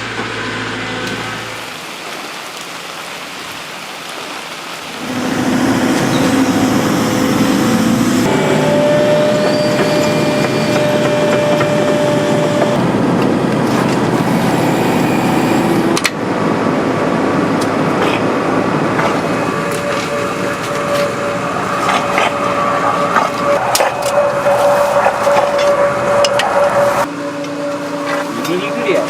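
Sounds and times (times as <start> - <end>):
heavy machinery whining: 4.9 - 29.0.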